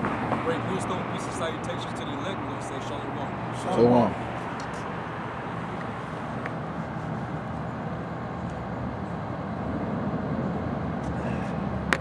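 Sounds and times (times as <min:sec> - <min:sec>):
low rumble of cars: 0:00.0 - 0:12.0.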